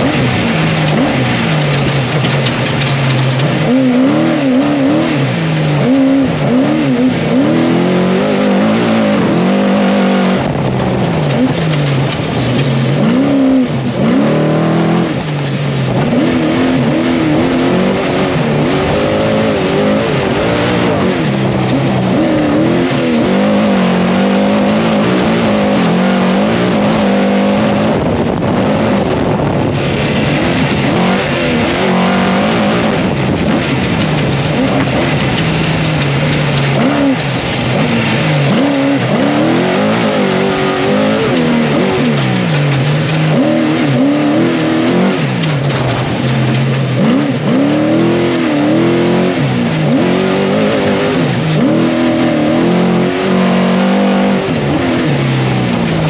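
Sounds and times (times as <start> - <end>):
race truck engine revving: 0.0 - 56.0
tyre and road noise: 0.0 - 56.0.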